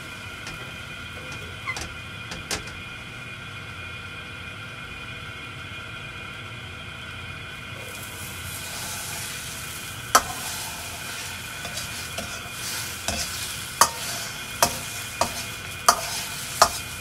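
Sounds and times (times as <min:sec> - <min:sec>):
exhaust fan whirring hum: 0:00.0 - 0:17.0.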